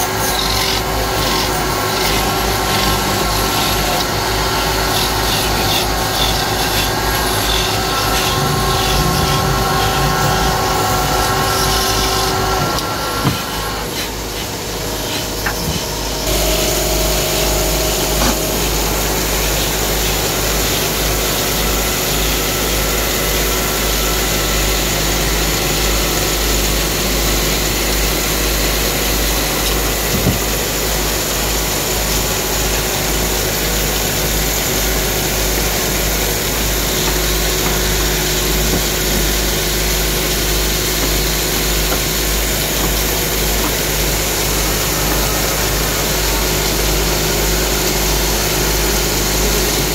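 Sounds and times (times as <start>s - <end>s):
wood lathe humming: 0.0s - 49.9s.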